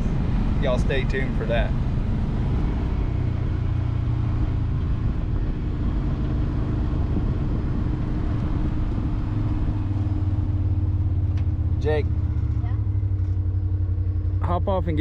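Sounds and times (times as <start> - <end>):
road and wind noise: 0.0 - 15.0
vehicle engine running: 0.0 - 15.0.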